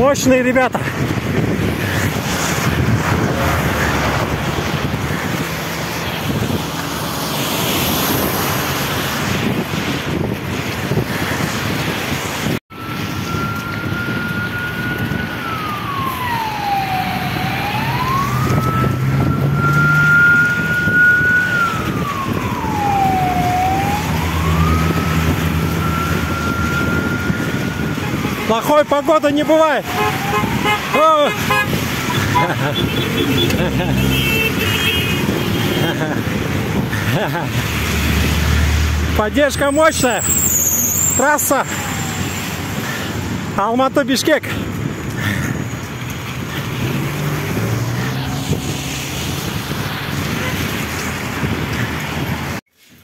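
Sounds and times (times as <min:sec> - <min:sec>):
wind buffeting microphone: 0:00.0 - 0:39.2, 0:41.6 - 0:43.6, 0:44.4 - 0:52.6
emergency siren wailing: 0:00.8 - 0:10.4, 0:12.7 - 0:43.9, 0:44.6 - 0:52.3.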